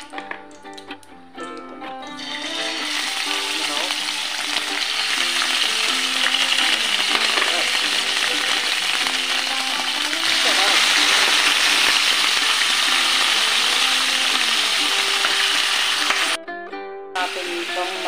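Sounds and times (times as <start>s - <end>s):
meat sizzling in hot oil: 1.6s - 16.4s, 17.3s - 18.0s.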